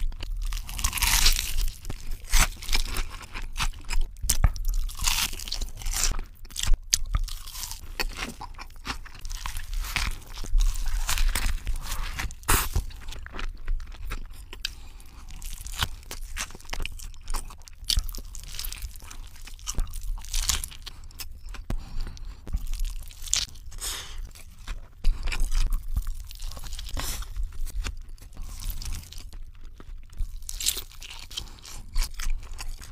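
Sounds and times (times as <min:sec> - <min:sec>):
biting and chewing burger: 0:00.0 - 0:32.9.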